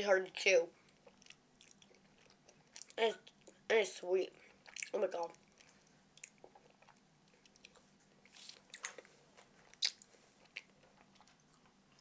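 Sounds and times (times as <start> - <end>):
chewing with wet mouth clicks: 0.9 - 3.6, 4.5 - 12.0.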